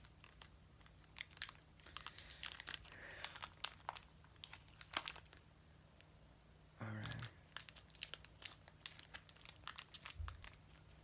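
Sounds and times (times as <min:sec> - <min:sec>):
packaging crinkling: 0:00.0 - 0:05.5, 0:07.0 - 0:11.0.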